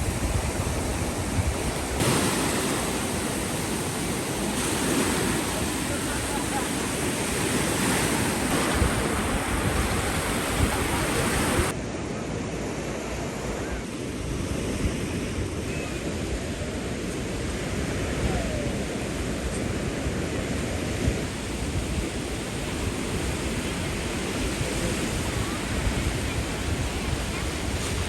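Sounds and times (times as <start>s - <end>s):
wind noise on microphone: 0.0s - 11.8s, 13.2s - 28.0s
sea surf rushing: 0.0s - 28.0s.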